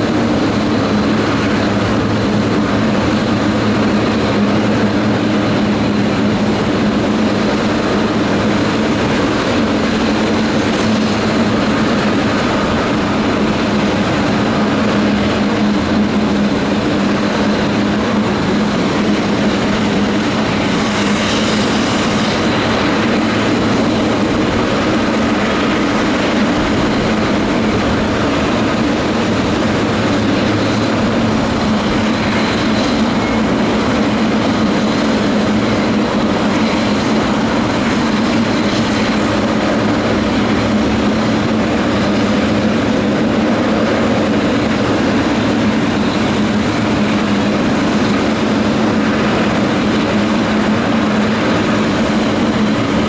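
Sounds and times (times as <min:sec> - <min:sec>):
jet engines droning: 0:00.0 - 0:53.0.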